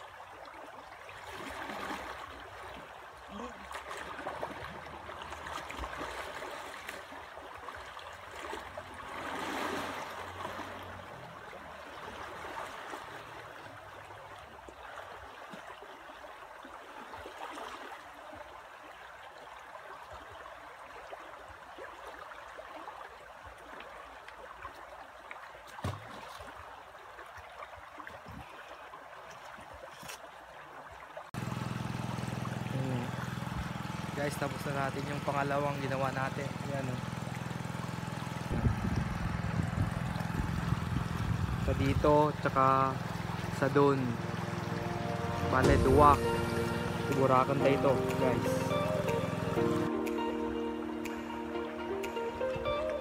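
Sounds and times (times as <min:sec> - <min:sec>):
river running over stones: 0:00.0 - 0:38.7, 0:40.0 - 0:50.0.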